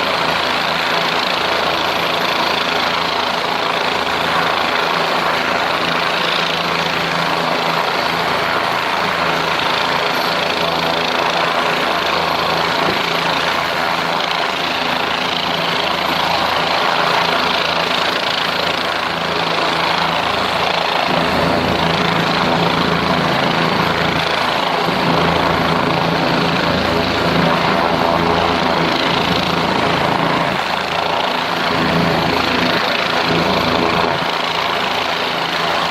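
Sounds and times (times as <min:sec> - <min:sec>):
helicopter drone: 0:00.0 - 0:35.9.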